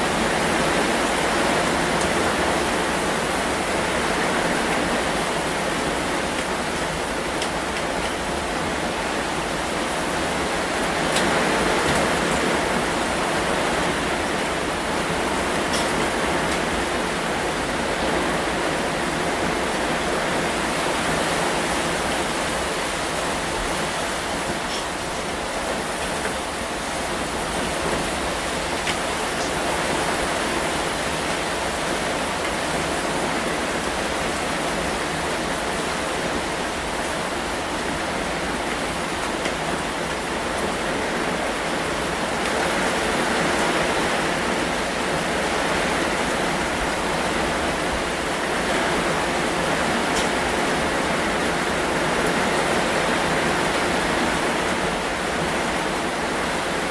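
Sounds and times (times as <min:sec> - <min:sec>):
heavy rain hiss: 0:00.0 - 0:56.9.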